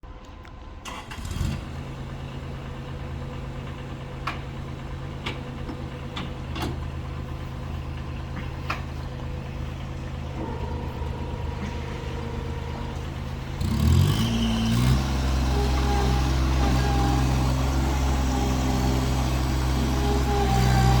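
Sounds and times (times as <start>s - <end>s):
diesel engine idling and revving: 0.1s - 21.0s.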